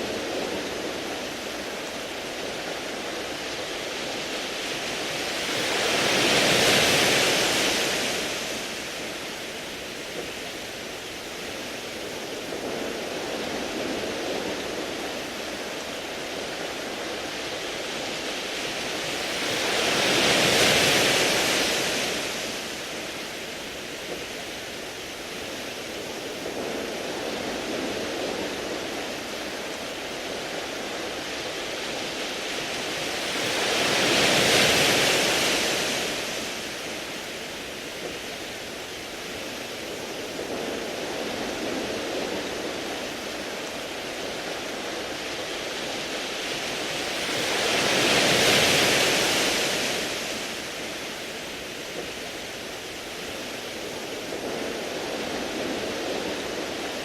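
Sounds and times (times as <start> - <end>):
waves washing over pebbles: 0.0 - 57.0.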